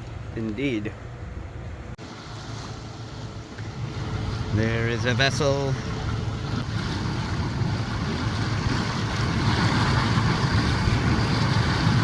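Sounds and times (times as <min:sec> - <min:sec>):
wind: 0:00.0 - 0:12.0
water rushing: 0:02.0 - 0:12.0.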